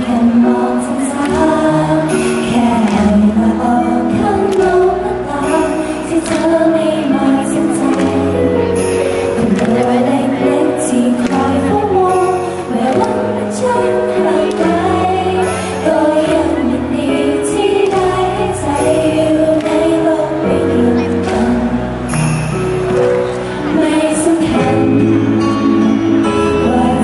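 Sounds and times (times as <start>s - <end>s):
group of girls singing pop song: 0.0s - 22.2s, 23.6s - 25.4s, 26.4s - 27.0s
instrumental accompaniment with bass: 0.0s - 27.0s.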